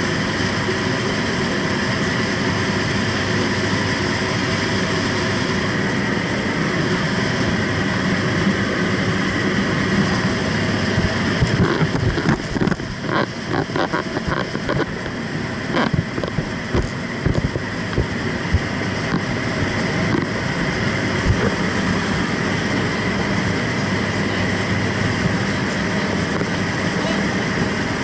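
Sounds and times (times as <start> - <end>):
airplane engine and propeller: 0.0 - 28.0.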